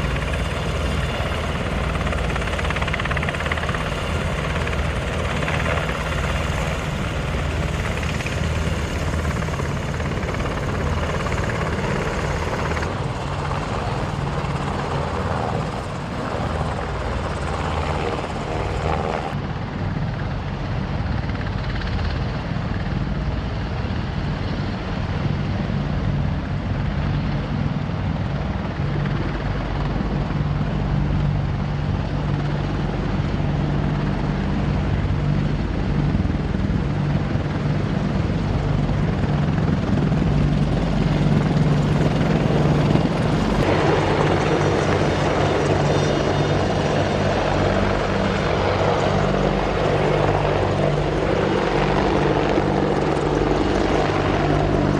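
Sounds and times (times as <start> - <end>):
helicopter rotors and turbines: 0.0 - 54.9.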